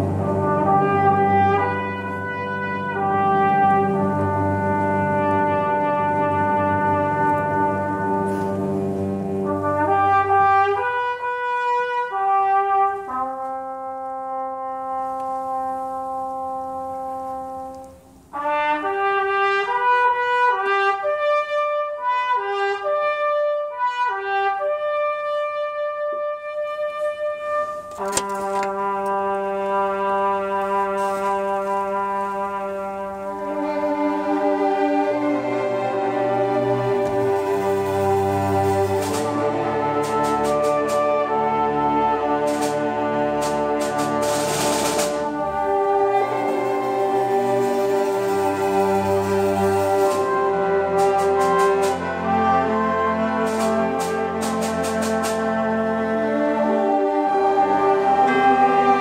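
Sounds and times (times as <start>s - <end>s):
orchestra playing: 0.0s - 59.0s
trumpet long held notes: 0.0s - 59.0s.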